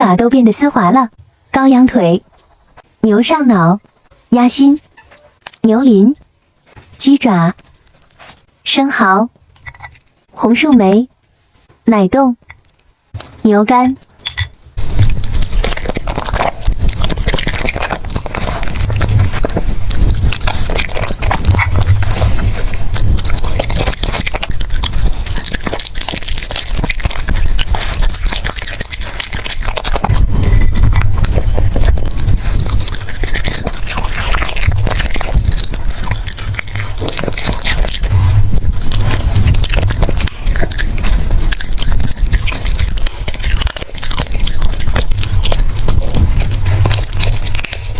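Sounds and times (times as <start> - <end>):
dog chewing and crunching food: 5.4 - 8.5, 9.5 - 11.0, 14.1 - 47.9.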